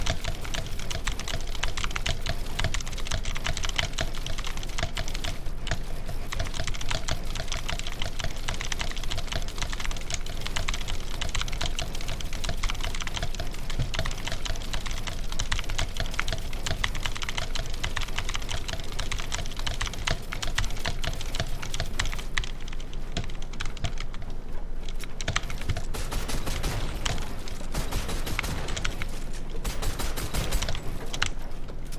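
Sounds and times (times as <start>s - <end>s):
keyboard typing: 0.0s - 31.9s.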